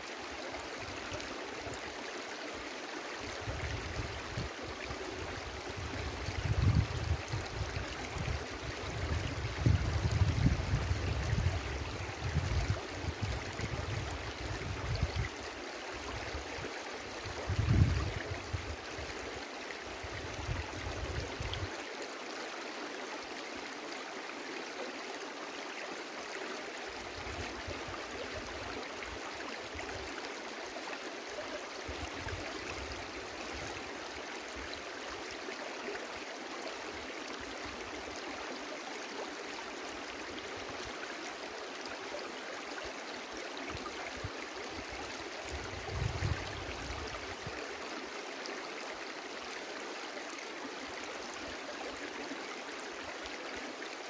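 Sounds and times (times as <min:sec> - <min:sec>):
brook rushing water: 0:00.0 - 0:54.0.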